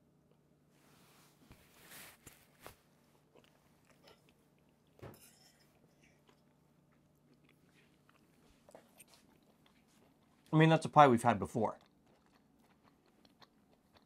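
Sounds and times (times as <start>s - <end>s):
soft chewing: 0.2s - 14.0s.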